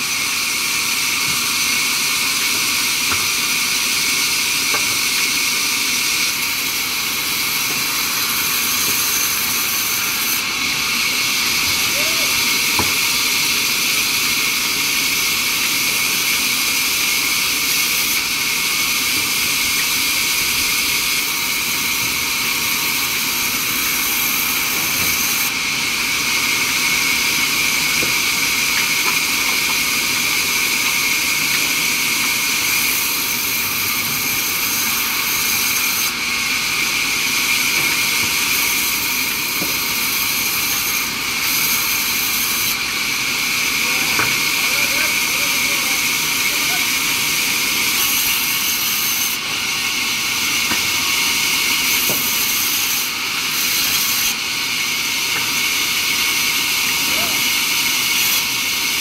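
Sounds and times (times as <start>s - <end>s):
sawmill saw hissing and whining: 0.0s - 59.0s.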